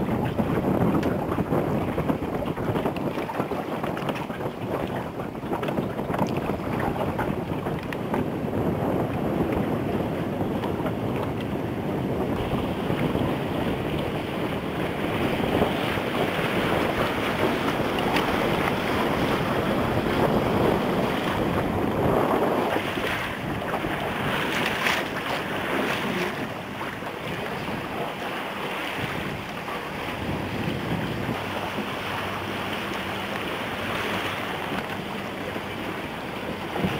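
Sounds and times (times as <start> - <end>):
water splashing along boat hull: 0.0 - 36.9
wind buffeting microphone: 0.0 - 36.9.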